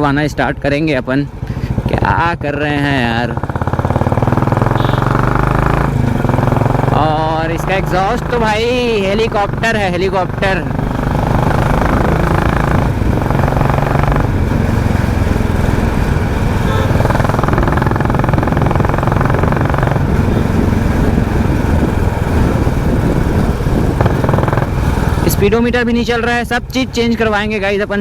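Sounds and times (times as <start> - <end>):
motorcycle engine pulsing: 1.2 - 28.0.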